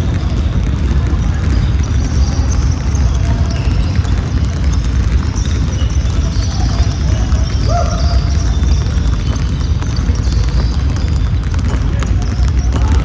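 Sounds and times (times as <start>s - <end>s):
basketballs bouncing on gym floor: 0.0s - 13.0s
faint voices: 0.0s - 13.0s.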